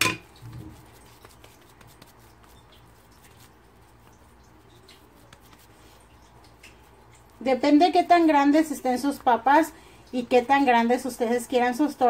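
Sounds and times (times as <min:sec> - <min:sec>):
low steady hum: 0:00.0 - 0:12.0
patties frying in oil: 0:00.0 - 0:12.0.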